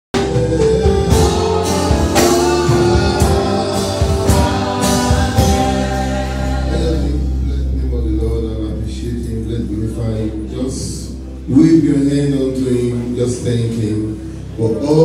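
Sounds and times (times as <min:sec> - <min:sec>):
gospel music with singing: 0:00.1 - 0:15.0.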